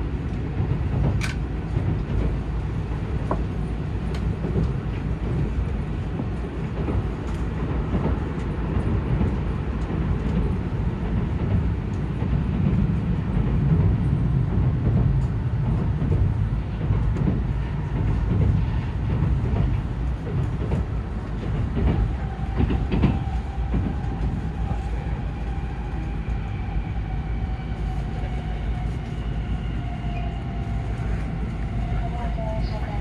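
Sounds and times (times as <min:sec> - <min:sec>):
rumble of wheels on rail: 0:00.0 - 0:33.0.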